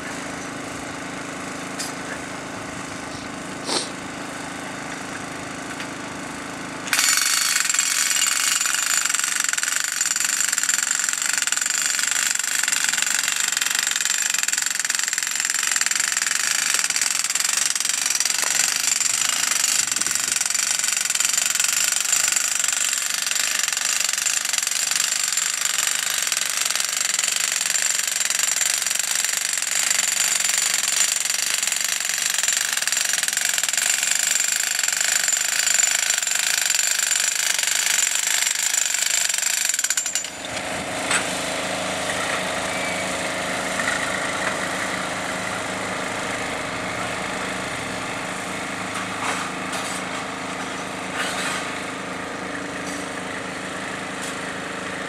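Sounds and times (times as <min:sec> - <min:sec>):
jackhammers hammering: 0:00.0 - 0:55.0.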